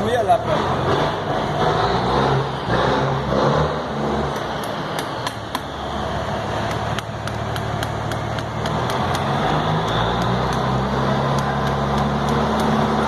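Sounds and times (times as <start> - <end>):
low engine-like drone: 0.3 - 13.0.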